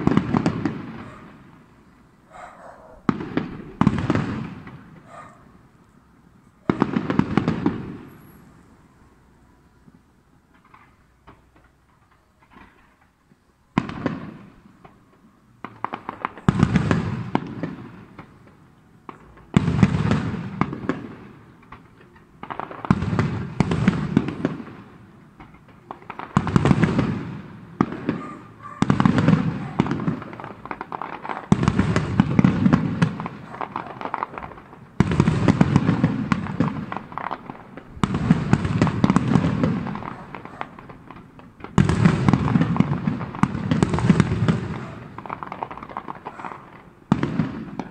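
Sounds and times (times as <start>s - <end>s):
fireworks bursting with crackle: 0.0s - 47.9s.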